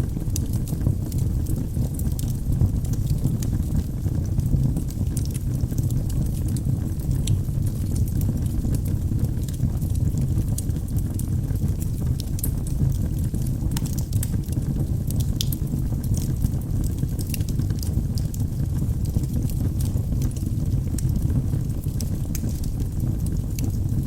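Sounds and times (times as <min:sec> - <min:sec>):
crackles and pops of burning logs: 0:00.0 - 0:24.0
fire rumbling: 0:00.0 - 0:24.0.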